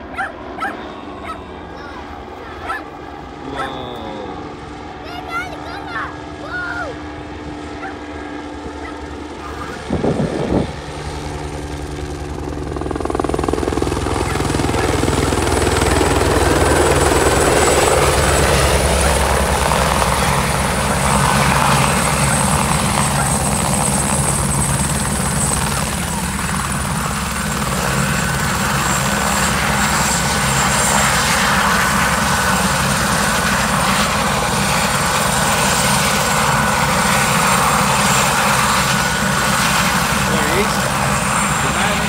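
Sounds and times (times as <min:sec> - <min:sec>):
helicopter rotor thrum: 0:00.0 - 0:42.0
high turbine whine: 0:00.0 - 0:42.0.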